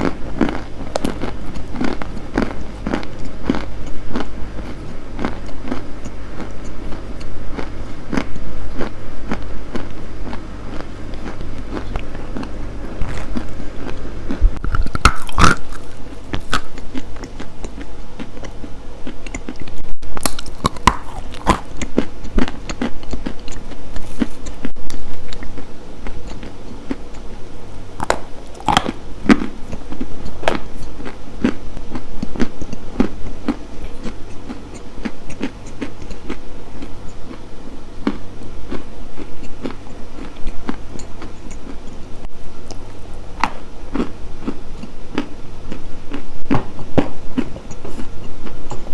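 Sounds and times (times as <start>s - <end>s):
crunchy chewing: 0.0s - 48.9s.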